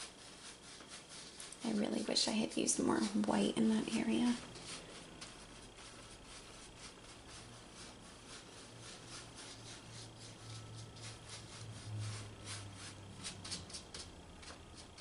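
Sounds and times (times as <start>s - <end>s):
brush strokes on wet canvas: 0.0s - 13.9s.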